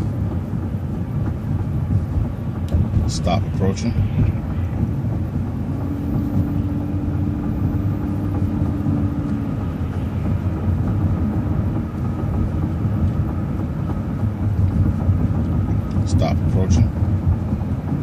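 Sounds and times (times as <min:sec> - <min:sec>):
bus engine and road rumble: 0:00.0 - 0:18.0
steady hum: 0:00.0 - 0:18.0.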